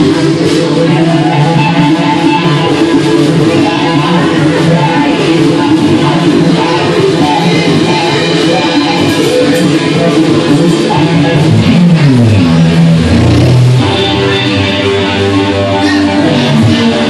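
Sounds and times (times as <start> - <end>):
drum kit: 0.0 - 17.0
electric bass: 0.0 - 17.0
electric guitar: 0.0 - 17.0.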